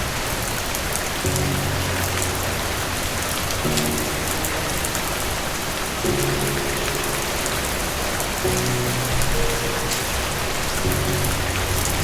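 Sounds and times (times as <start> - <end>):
calm background music: 0.0 - 12.0
rain patter: 0.0 - 12.0.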